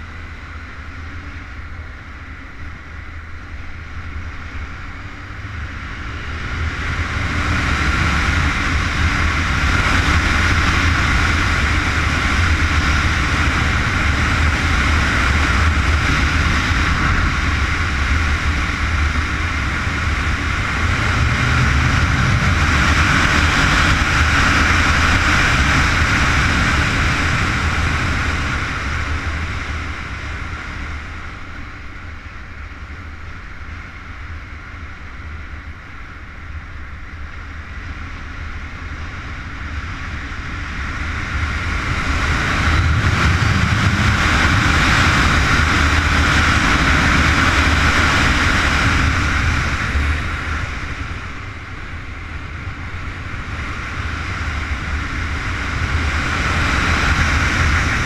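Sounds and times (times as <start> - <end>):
motorcycle engine: 0.0 - 58.0
wind rush: 0.0 - 58.0.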